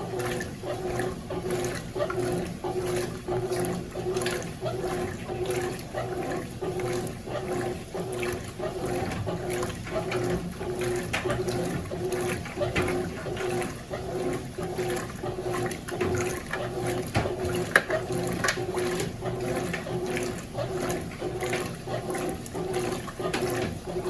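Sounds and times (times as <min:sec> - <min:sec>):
washing machine motor humming: 0:00.0 - 0:24.0
water sloshing: 0:00.0 - 0:24.0.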